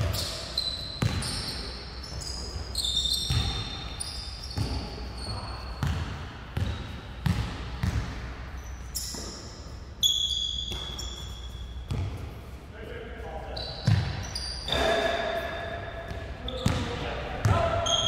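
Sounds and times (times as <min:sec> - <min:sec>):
basketball bouncing on hall floor: 0:00.0 - 0:12.5, 0:13.6 - 0:18.0
sneakers squeaking on court: 0:00.0 - 0:12.6, 0:13.5 - 0:18.0.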